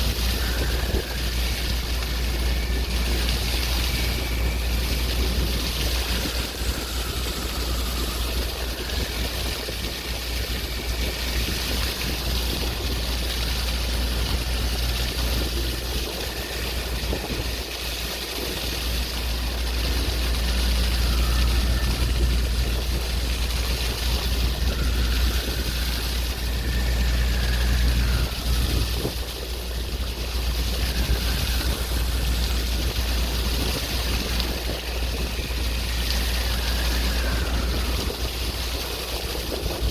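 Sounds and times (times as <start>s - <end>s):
sea waves washing: 0.0s - 39.9s
wind rumble on microphone: 0.0s - 39.9s.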